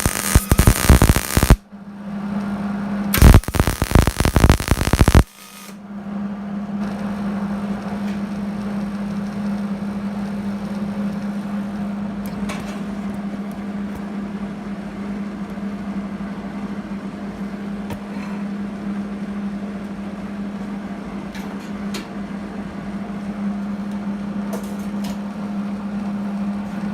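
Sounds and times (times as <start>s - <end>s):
steady machine hum: 0.0s - 26.9s.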